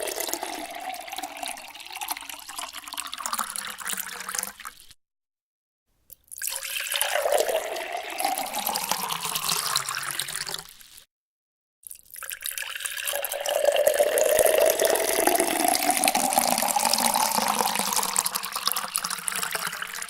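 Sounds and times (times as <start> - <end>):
water pouring into a container: 0.0 - 5.0, 6.3 - 11.1, 11.8 - 20.0.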